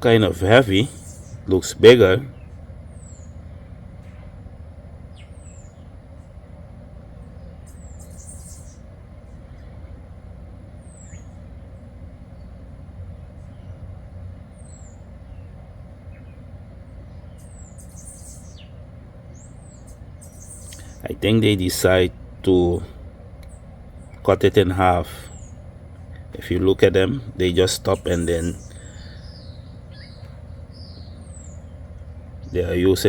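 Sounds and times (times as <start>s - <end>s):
bird calling high thin notes: 0.0s - 10.1s, 10.7s - 33.0s
steady low rumble: 0.0s - 33.0s.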